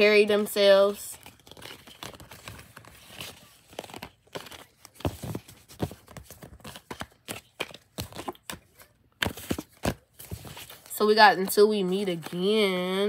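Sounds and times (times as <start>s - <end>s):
cards being shuffled: 0.2s - 13.0s.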